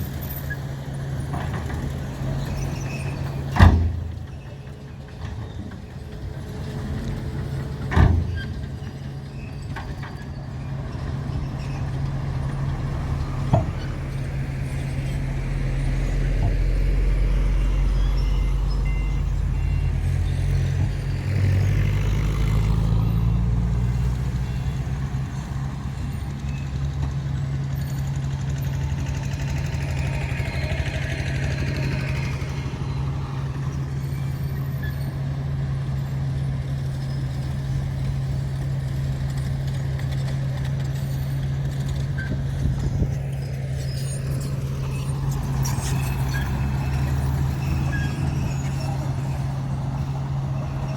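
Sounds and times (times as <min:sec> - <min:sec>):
heavy diesel engine droning: 0:00.0 - 0:50.9.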